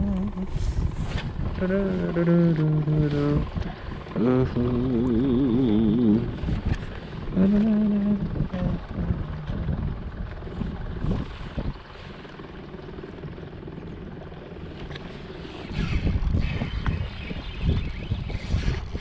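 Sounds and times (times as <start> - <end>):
electric trolling motor humming: 0.0 - 19.0.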